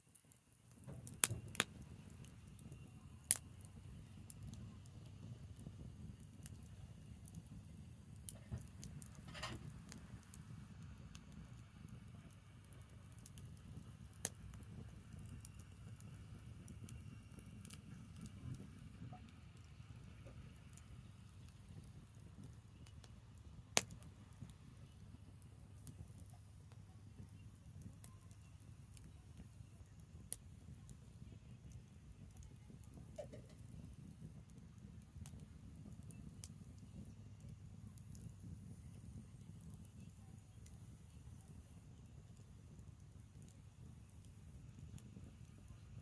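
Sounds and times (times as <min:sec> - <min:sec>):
fire crackling and popping: 0:00.0 - 0:46.0
low rumble of flame: 0:00.0 - 0:46.0.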